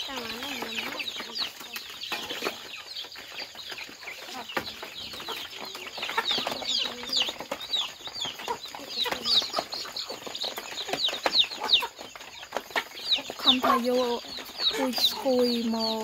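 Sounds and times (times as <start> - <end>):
beaks pecking on metal sheets: 0.0 - 16.0
chicks peeping: 0.0 - 16.0
hens clucking: 0.0 - 16.0.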